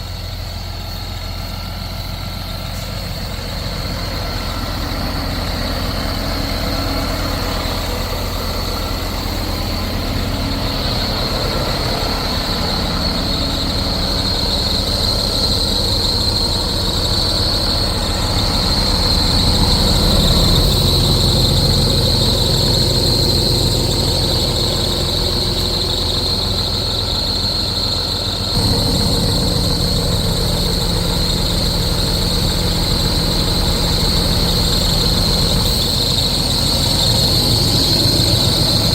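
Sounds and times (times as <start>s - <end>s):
diesel truck engine idling: 0.0s - 38.9s
high-pitched engine whine: 0.0s - 38.9s.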